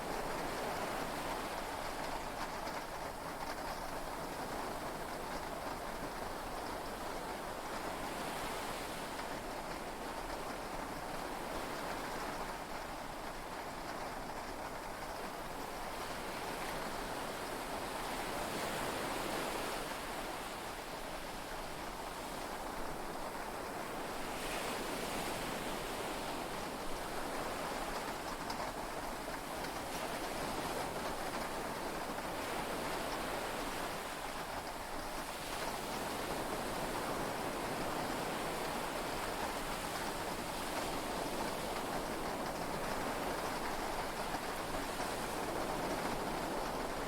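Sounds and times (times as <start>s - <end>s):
rain: 0.0s - 47.0s.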